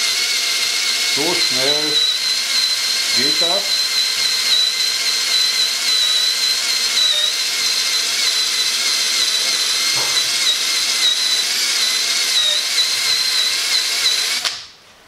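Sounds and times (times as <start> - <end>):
cordless drill whining: 0.0 - 14.8.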